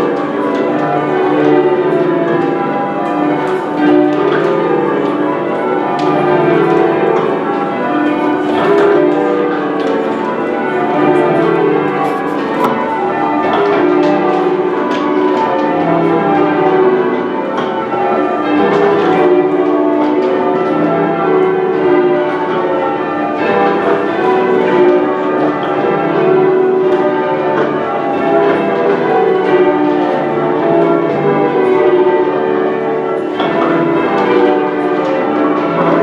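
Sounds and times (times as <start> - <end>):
church bells change ringing: 0.0 - 36.0.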